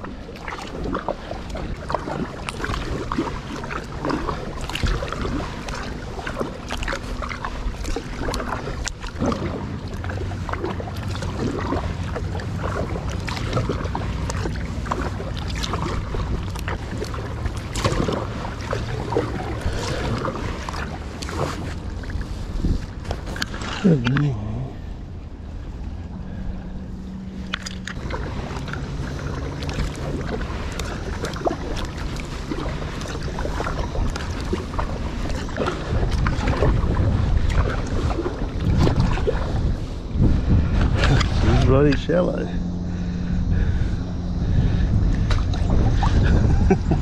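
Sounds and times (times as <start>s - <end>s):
paddle blades splashing: 0.0s - 47.0s
wind rumble on microphone: 0.0s - 47.0s.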